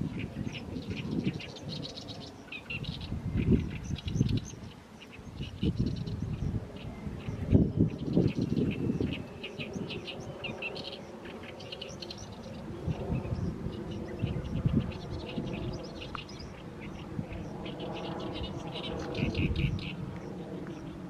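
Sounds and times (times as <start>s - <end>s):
reed warbler singing: 0.0s - 21.0s.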